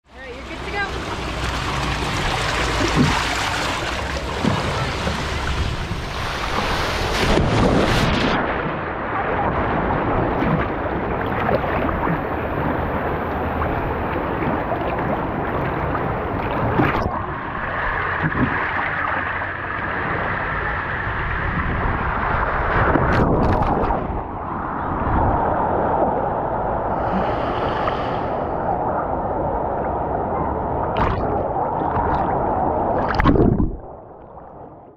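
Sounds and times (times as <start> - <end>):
water gushing and splashing: 0.2 - 34.9.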